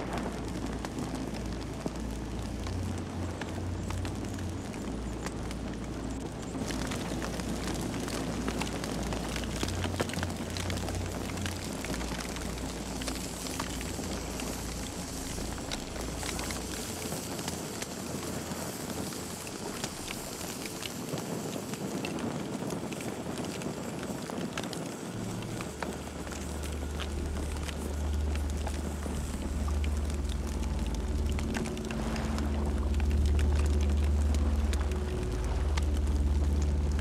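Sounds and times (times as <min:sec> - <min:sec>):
campfire wood crackling and popping: 0:00.0 - 0:37.0.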